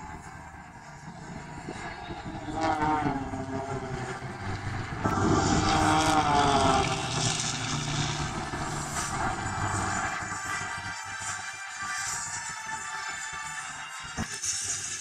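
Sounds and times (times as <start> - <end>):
propeller planes flying overhead: 0.0 - 15.0.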